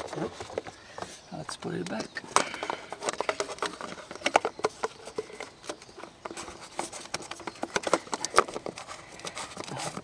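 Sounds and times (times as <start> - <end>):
hands fitting plastic filter clicks: 0.0 - 10.0.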